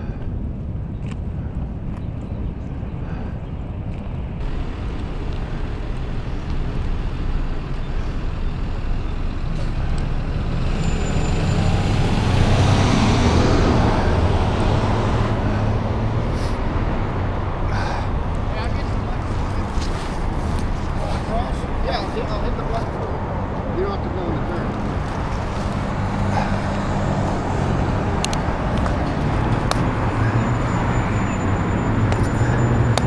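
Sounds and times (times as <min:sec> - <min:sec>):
traffic rumble: 0:00.0 - 0:33.0
vehicle passing: 0:04.4 - 0:33.0.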